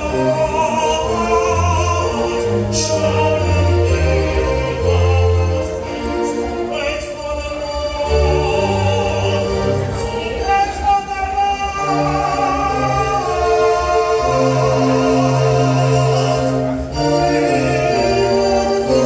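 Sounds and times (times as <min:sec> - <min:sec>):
man singing with vibrato: 0:00.0 - 0:19.0.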